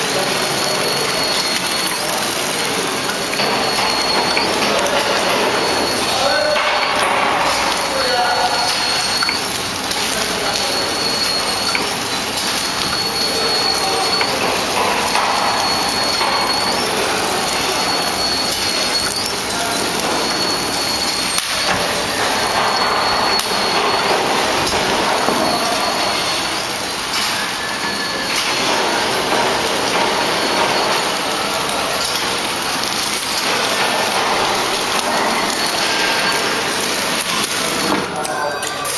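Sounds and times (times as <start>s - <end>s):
packing machine clatter: 0.0s - 38.9s.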